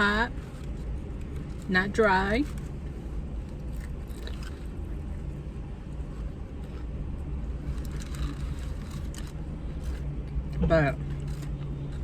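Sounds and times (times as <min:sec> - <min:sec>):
car engine hum: 0:00.0 - 0:12.0
chewing fried chicken: 0:00.3 - 0:12.0.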